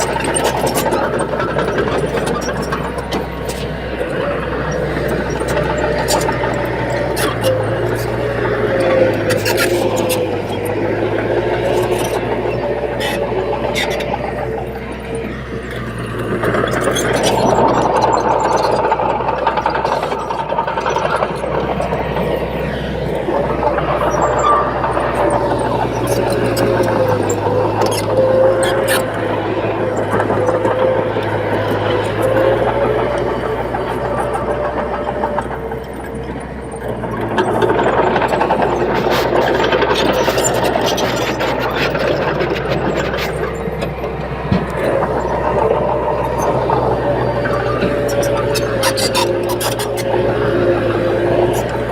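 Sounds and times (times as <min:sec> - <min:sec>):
bulldozer diesel engine clattering: 0:00.0 - 0:51.9
clanking and rattling: 0:00.0 - 0:51.9.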